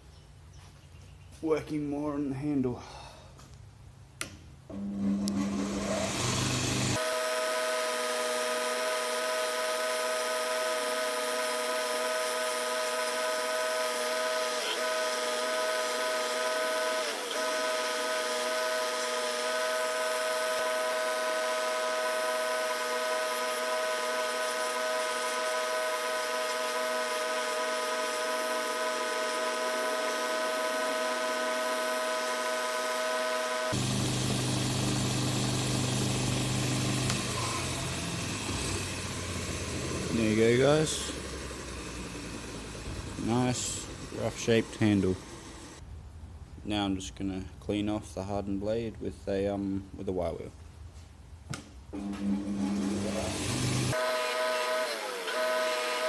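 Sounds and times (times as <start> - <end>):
power grinder running: 4.7 - 45.8, 52.0 - 56.0.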